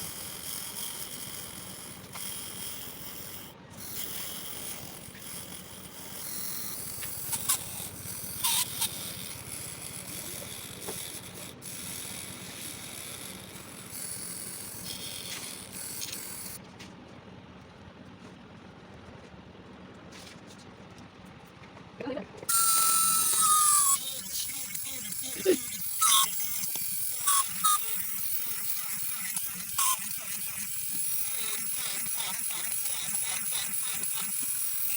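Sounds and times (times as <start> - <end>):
hand drill clicking and rattling: 0.0 - 16.6, 22.5 - 34.9.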